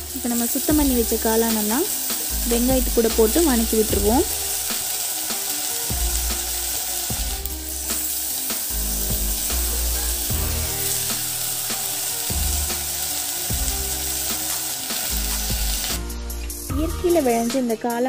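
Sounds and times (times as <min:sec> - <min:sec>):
mushrooms sizzling in a pan: 0:00.0 - 0:16.1
quiet background music: 0:00.0 - 0:18.0.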